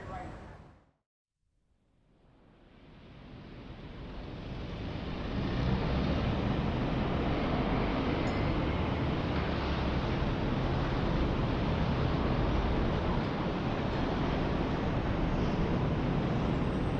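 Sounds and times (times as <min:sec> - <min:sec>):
low rumbling city noise: 0:00.0 - 0:00.9, 0:02.1 - 0:16.9.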